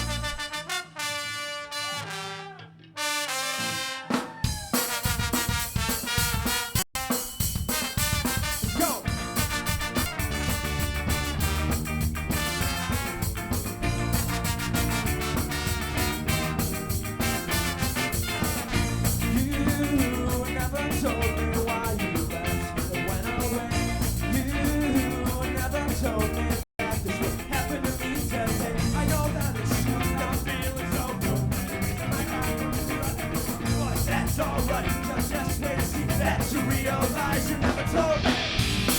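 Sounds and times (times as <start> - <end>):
live ska band music: 0.0 - 38.9.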